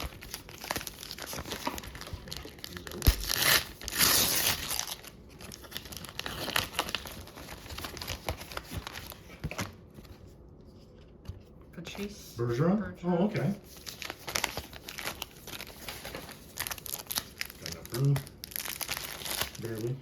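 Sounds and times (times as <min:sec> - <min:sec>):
wrapper crinkling and tearing: 0:00.0 - 0:09.7, 0:13.6 - 0:20.0.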